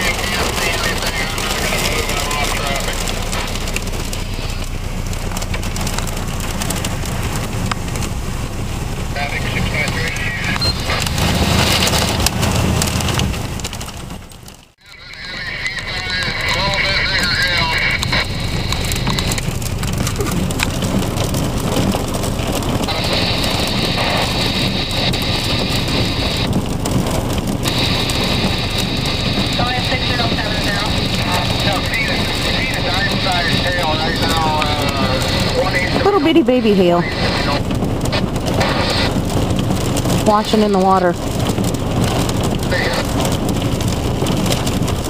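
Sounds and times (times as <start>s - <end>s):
hailstones ticking on car: 0.0s - 45.0s
low rumble: 0.0s - 45.0s
rain rushing on a car: 0.0s - 45.0s.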